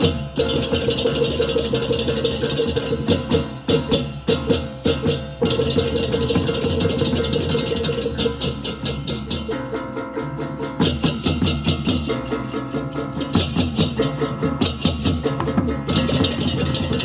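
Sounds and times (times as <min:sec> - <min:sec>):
drums and gongs: 0:00.0 - 0:17.0.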